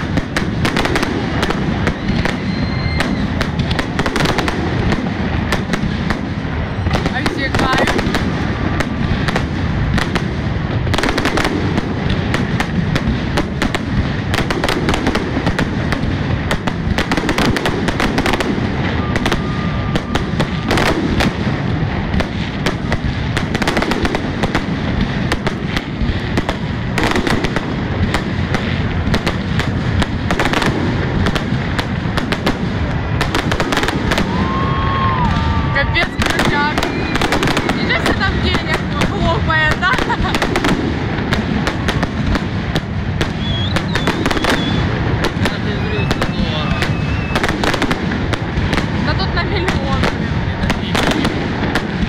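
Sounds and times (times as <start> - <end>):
fireworks crackling and banging: 0.0 - 52.0.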